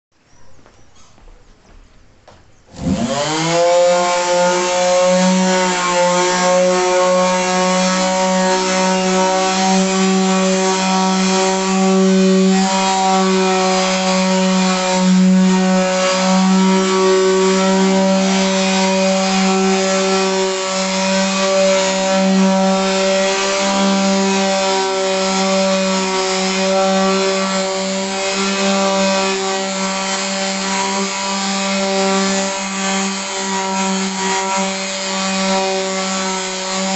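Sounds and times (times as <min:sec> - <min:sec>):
electric sander motor hum: 0:02.7 - 0:36.9
sandpaper rasping on wood: 0:02.7 - 0:36.9.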